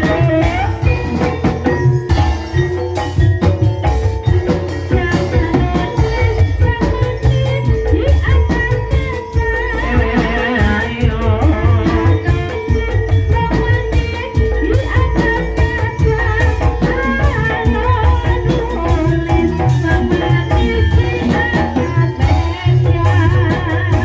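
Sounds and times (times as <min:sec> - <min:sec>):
person singing: 0:00.0 - 0:02.8, 0:04.2 - 0:24.0
ringing metallophone tones: 0:00.0 - 0:24.0.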